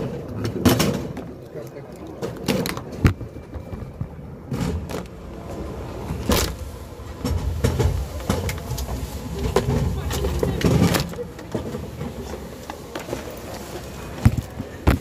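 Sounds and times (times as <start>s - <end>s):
conveyor rollers rumbling: 0.0s - 15.0s.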